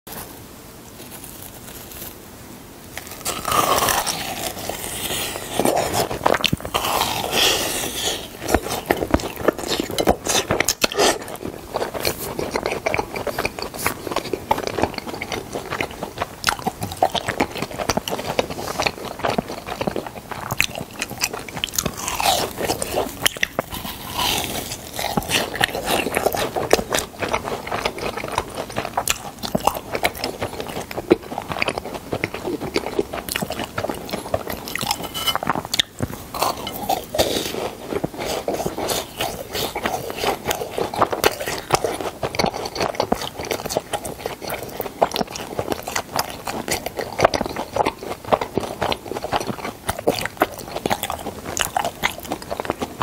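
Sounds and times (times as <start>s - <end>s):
crunchy food chewing: 0.1s - 2.3s, 2.9s - 53.0s.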